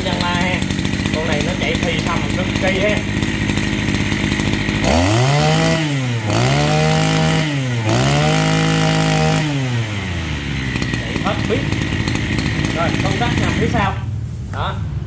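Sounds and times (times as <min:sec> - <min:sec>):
brush cutter engine revving: 0:00.0 - 0:14.1.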